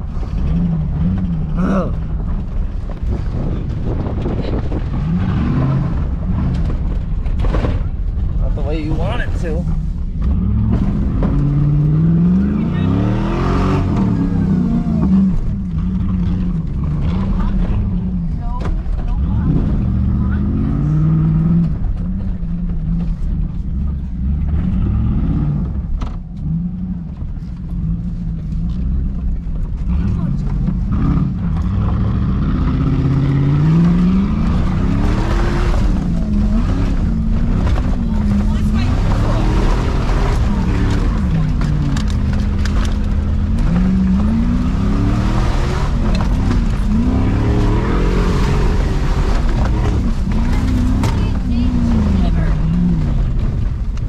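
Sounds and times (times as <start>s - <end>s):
truck engine revving under load: 9.0s - 54.0s.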